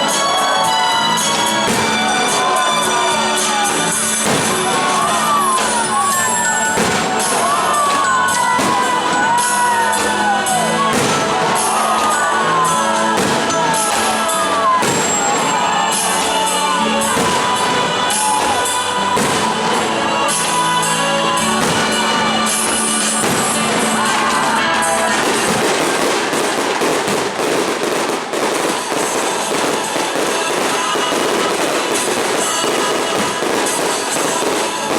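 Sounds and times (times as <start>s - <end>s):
crowd cheering: 0.0s - 34.9s
fireworks bangs: 0.0s - 34.9s
loud music: 0.0s - 34.9s.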